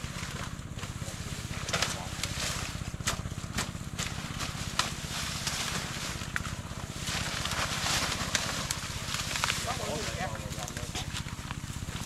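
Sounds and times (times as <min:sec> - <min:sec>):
low motor drone: 0:00.0 - 0:12.0
rustling through brush: 0:00.0 - 0:12.0
dry vegetation snapping: 0:01.6 - 0:12.0.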